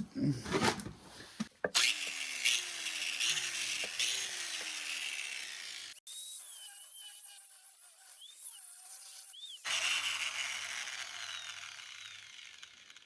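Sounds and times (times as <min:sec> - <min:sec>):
sawing on metal: 0:01.7 - 0:13.0.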